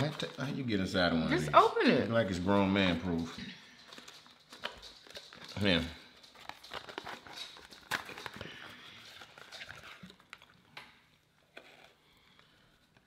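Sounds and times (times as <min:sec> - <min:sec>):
packaging rustling: 0:00.0 - 0:01.0, 0:01.9 - 0:13.0.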